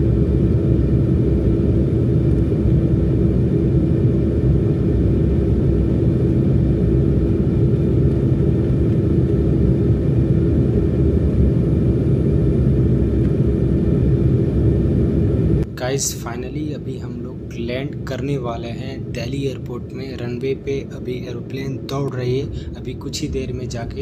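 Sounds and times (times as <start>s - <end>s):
airliner cabin rumble: 0.0s - 24.0s
constant hum: 0.0s - 24.0s.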